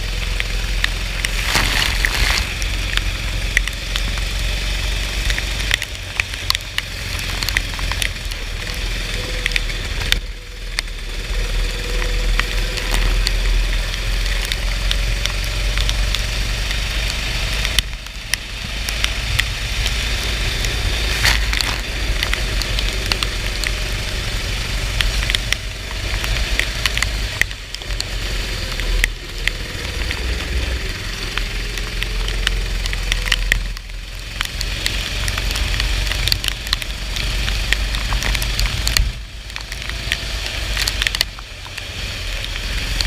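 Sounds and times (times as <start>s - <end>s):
go-kart engine running: 0.0s - 43.0s
rain and water spray hiss: 0.0s - 43.0s.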